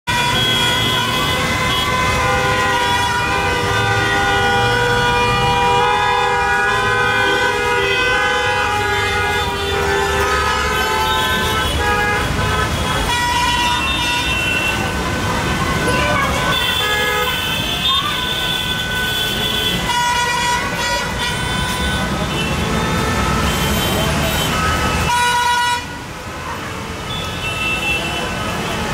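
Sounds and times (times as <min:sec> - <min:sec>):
vehicle horns honking: 0:00.0 - 0:28.9
low rumble of idling traffic: 0:00.1 - 0:28.9.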